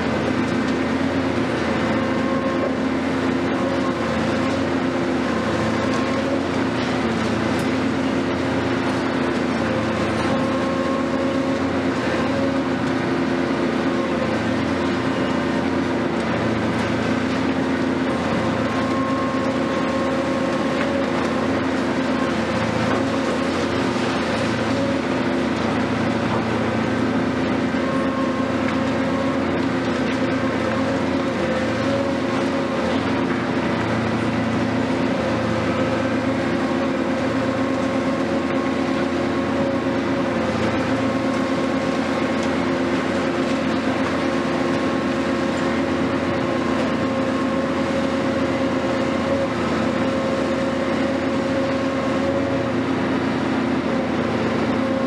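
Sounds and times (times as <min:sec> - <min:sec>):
excavator engine drone: 0:00.0 - 0:55.0.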